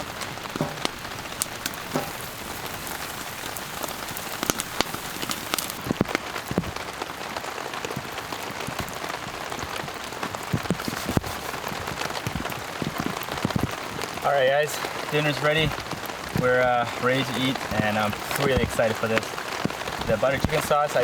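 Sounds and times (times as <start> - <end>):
pouring rain: 0.0 - 21.0
raindrops striking close by: 0.0 - 21.0.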